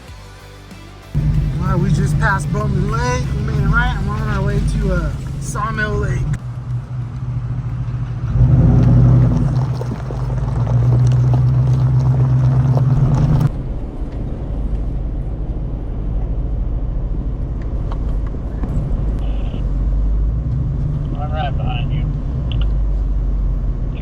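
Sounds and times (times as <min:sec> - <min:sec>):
low rumble of driving: 0:01.1 - 0:24.0
vehicle engine drone under load: 0:01.1 - 0:24.0.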